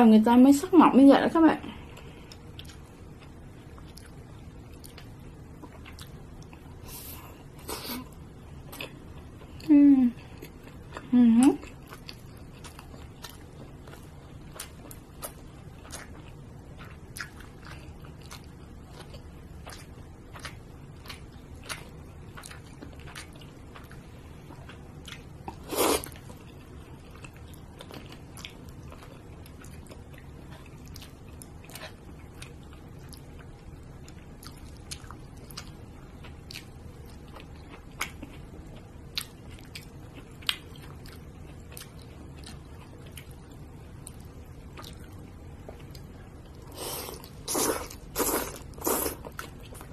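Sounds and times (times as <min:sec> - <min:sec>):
person chewing food: 0:01.8 - 0:49.9.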